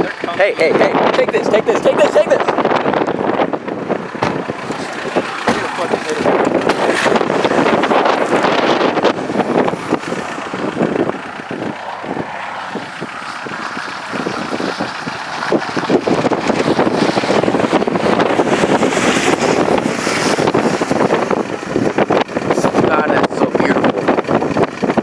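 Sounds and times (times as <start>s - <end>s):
vehicle noise: 0.0s - 25.0s
wind rushing over microphone: 0.0s - 25.0s.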